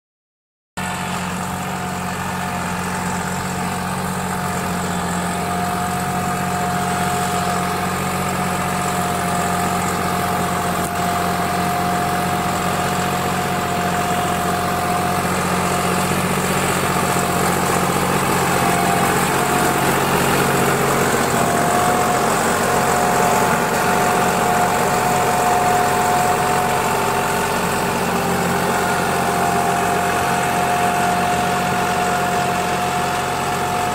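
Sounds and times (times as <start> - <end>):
tractor diesel engine running: 0.8 - 33.9.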